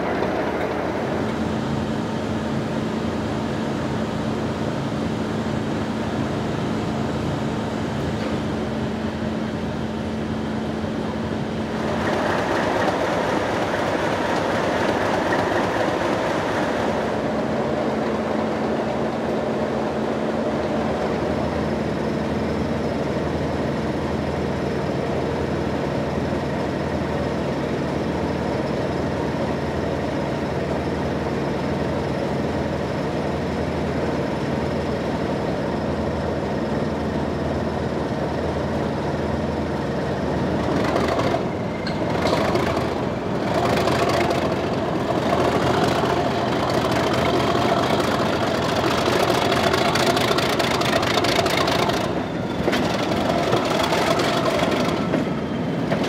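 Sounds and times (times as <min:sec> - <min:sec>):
locomotive diesel engine running: 0:00.0 - 0:56.0.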